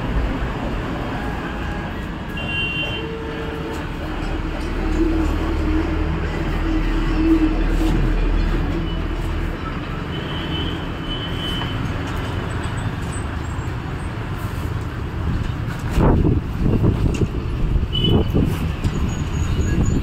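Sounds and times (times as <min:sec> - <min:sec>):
traffic noise: 0:00.0 - 0:20.0
traffic rush: 0:00.0 - 0:20.0.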